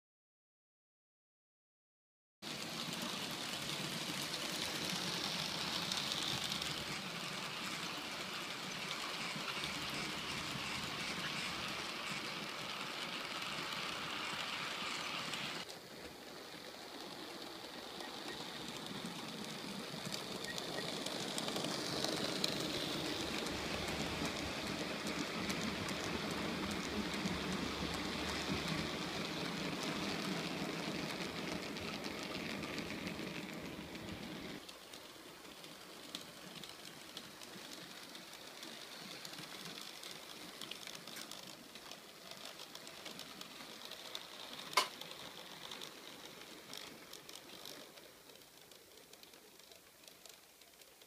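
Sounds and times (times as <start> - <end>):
model train wheels rattling: 2.4 - 51.0.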